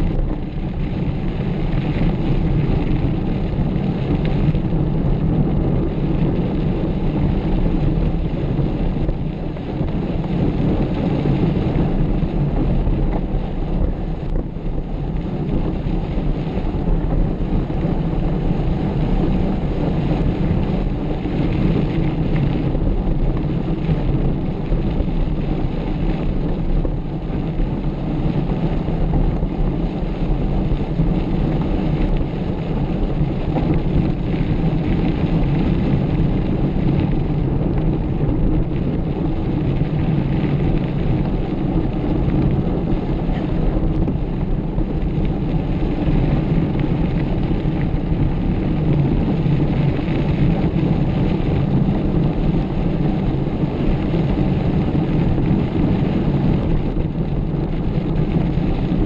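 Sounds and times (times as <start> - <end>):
mountain bike rumbling off-road: 0.0 - 59.0
wind rush on microphone: 0.0 - 59.0.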